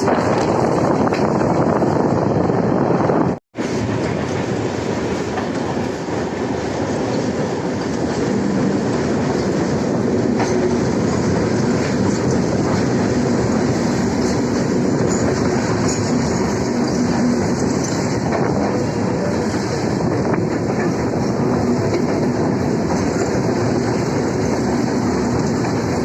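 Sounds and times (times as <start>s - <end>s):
clickety-clack over rail joints: 0.0s - 26.0s
train wheels rumbling on rails: 0.0s - 26.0s.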